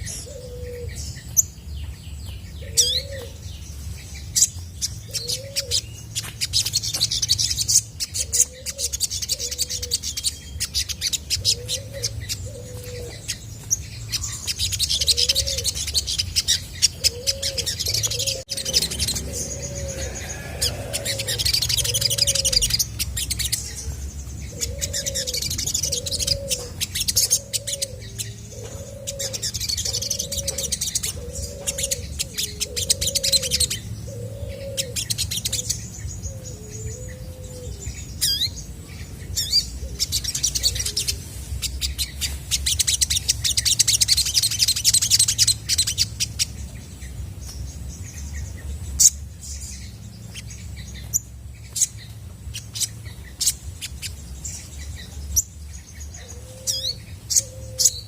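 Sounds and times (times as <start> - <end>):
low repeated bird call: 0.0 - 47.2.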